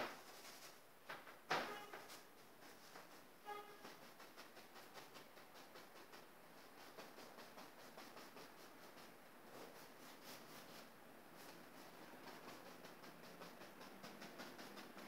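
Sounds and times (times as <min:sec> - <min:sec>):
paintbrush stroking canvas: 0:00.0 - 0:00.8, 0:01.8 - 0:15.0.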